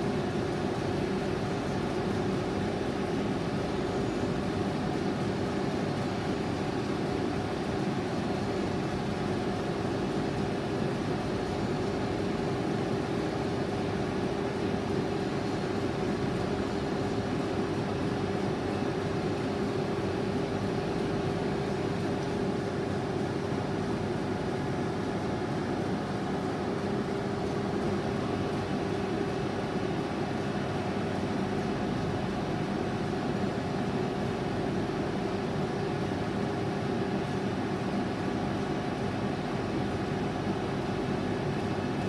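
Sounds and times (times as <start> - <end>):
lathe mechanical hum: 0.0 - 42.0.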